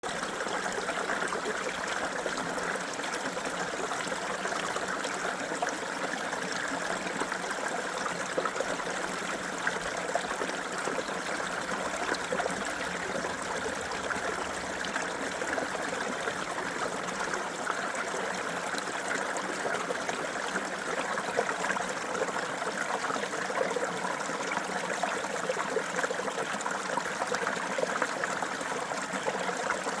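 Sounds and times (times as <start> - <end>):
creek trickling over stones: 0.0 - 30.0.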